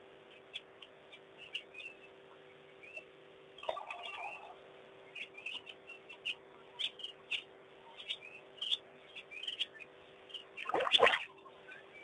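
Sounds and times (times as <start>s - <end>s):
faint steady hum: 0.0s - 12.0s
birds chirping: 0.3s - 12.0s.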